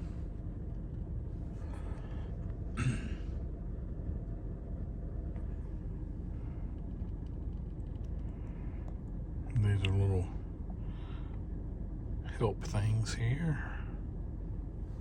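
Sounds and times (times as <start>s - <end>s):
car engine rumble inside cabin: 0.0s - 15.0s.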